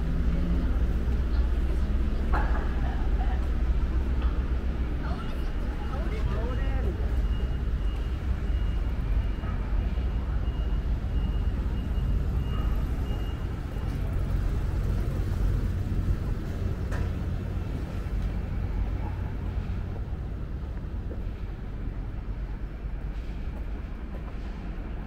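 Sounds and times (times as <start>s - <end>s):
city street traffic rumble: 0.0s - 25.0s.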